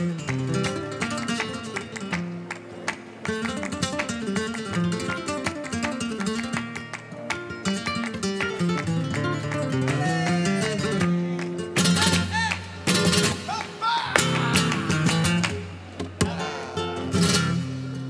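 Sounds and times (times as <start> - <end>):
flamenco guitar playing: 0.0 - 18.0.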